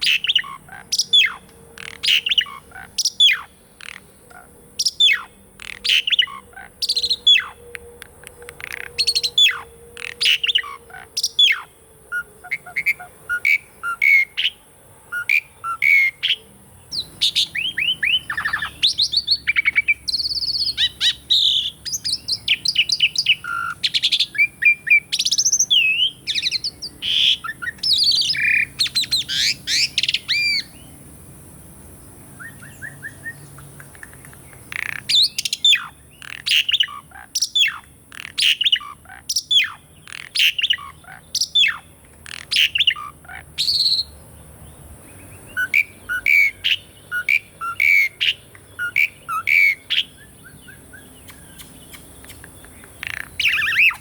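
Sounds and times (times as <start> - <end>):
starling singing whistles and chatter: 0.0 - 4.2, 4.8 - 14.6, 15.2 - 30.9, 32.4 - 44.2, 45.4 - 54.0.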